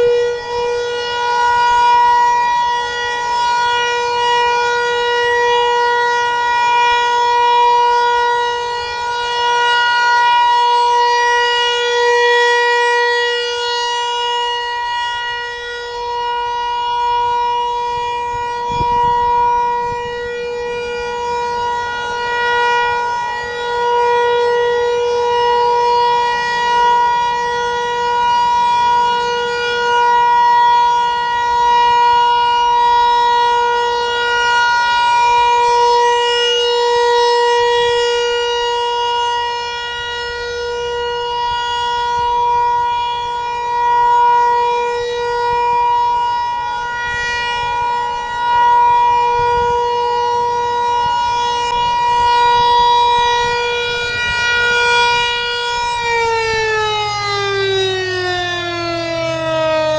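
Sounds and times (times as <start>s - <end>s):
rotating warning siren tone: 0.0s - 59.9s.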